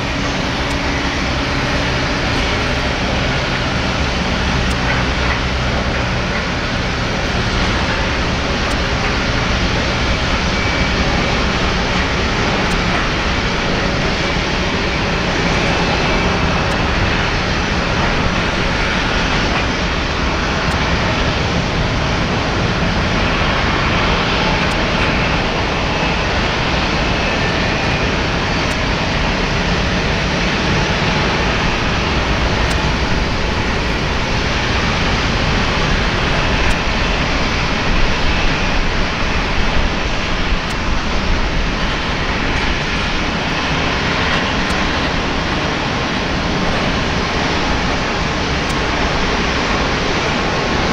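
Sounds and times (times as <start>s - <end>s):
faint high engine whine: 0.0s - 50.9s
jet engine rushing: 0.0s - 50.9s.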